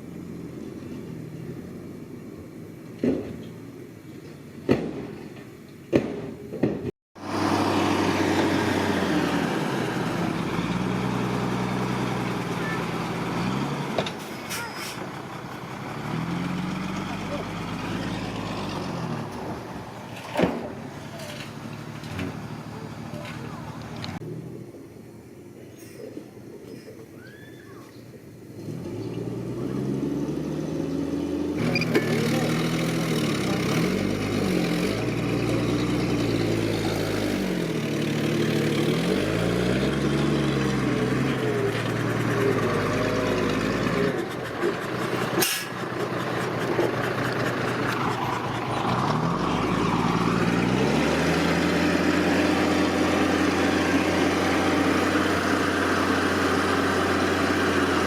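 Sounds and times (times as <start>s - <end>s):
diesel engine revving and idling: 0.0s - 3.9s, 7.2s - 24.8s, 28.4s - 58.0s.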